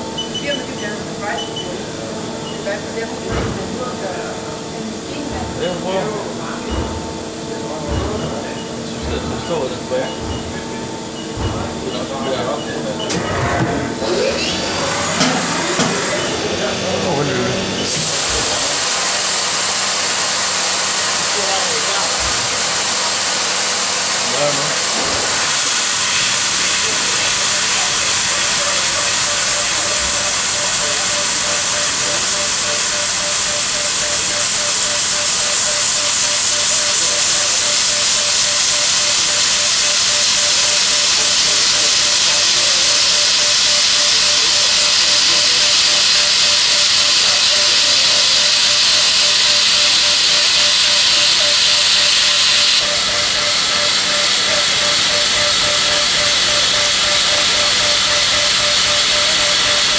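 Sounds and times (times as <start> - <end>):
milling machine hissing: 0.0 - 59.9.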